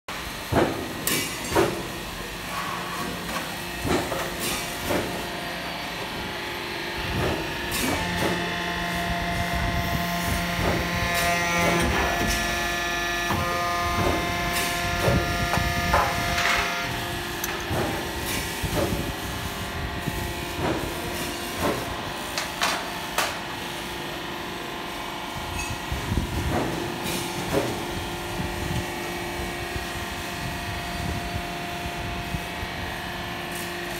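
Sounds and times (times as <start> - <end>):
hydraulic pump humming with whine: 2.5 - 33.9.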